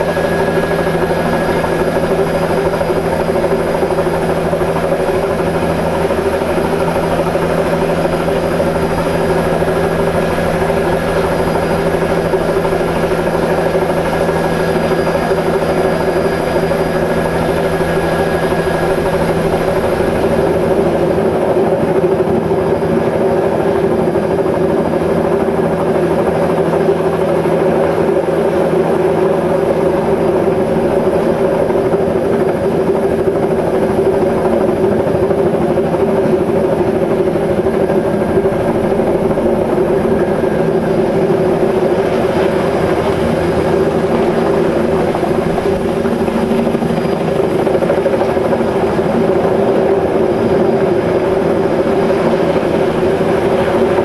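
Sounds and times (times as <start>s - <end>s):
aircraft engine drone: 0.0s - 54.0s.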